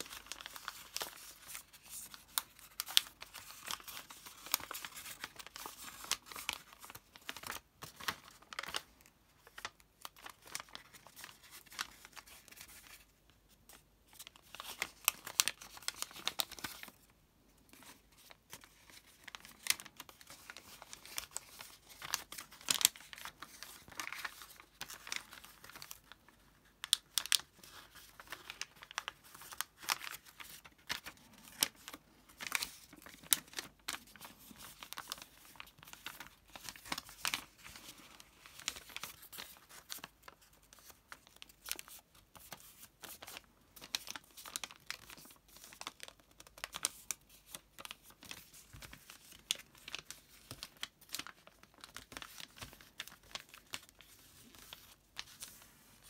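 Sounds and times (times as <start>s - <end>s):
paper crinkling and crackling: 0.0s - 56.0s.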